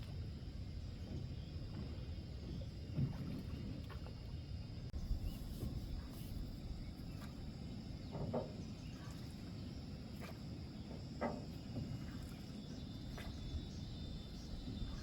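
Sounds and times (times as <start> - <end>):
faint insects: 0.0 - 15.0.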